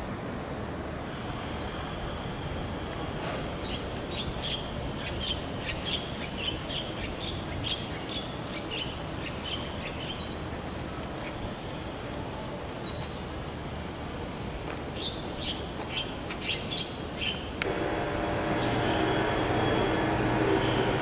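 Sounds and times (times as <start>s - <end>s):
outdoor background hum: 0.0s - 21.0s
birds chirping: 0.6s - 21.0s.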